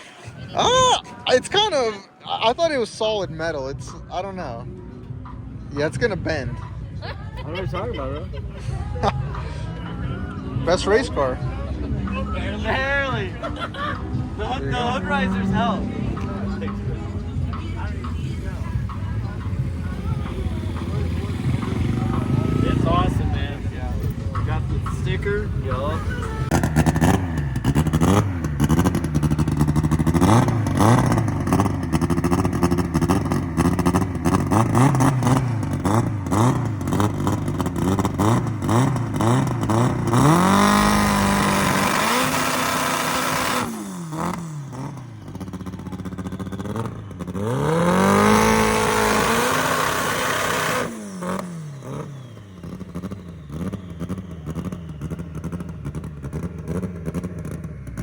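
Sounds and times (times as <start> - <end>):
exhaust crackling: 0.0 - 58.0
car engine revving: 8.8 - 58.0.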